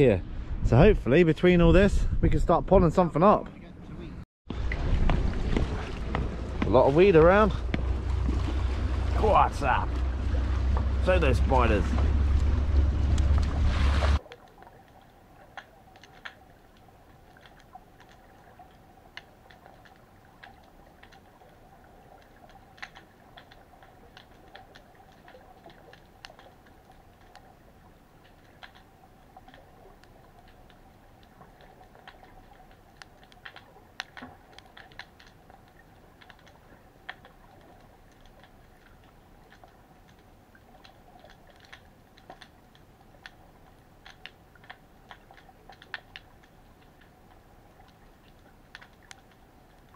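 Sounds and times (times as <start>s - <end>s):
faint underwater hum: 4.0s - 49.9s
underwater clicks and crackles: 4.6s - 13.6s, 14.2s - 49.9s.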